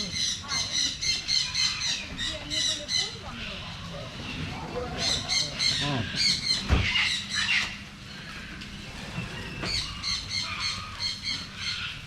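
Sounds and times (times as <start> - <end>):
birds squawking: 0.0 - 12.0.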